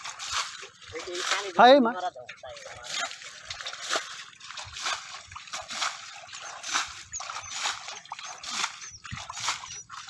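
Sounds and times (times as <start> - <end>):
muddy water splashing: 0.0 - 10.0.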